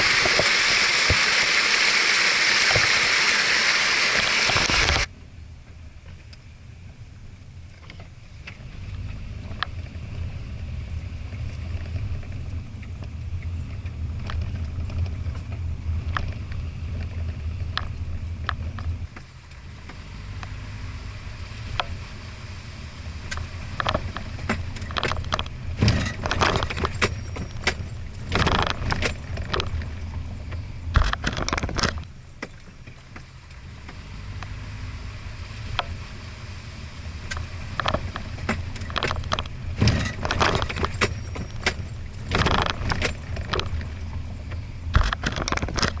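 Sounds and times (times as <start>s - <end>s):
low engine hum: 0.0s - 46.0s
vehicle body rattles and clunks: 4.2s - 22.2s, 23.0s - 34.8s, 37.0s - 46.0s.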